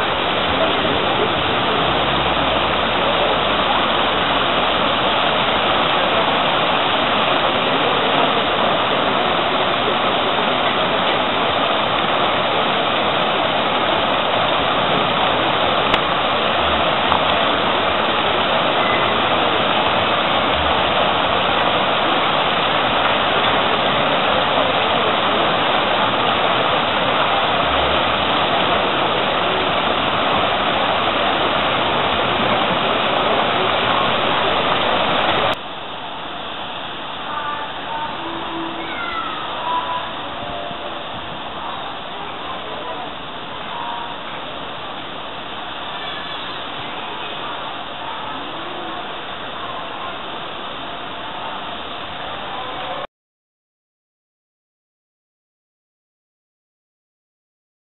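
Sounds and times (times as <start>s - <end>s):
fountain water splashing: 0.0s - 53.1s.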